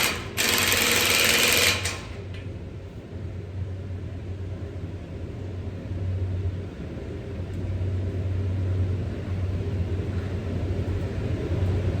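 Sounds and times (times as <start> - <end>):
low machinery hum with rumble: 0.0 - 12.0.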